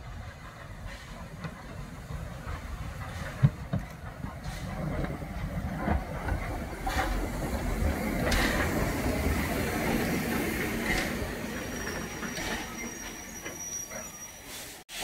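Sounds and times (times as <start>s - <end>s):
train wheels rumbling on rails: 0.0s - 14.8s.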